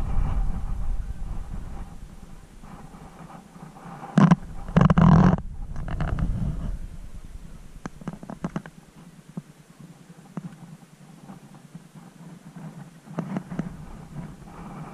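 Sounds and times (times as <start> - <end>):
low wind rumble on microphone: 0.0 - 14.9
rustling against camera: 0.0 - 14.9.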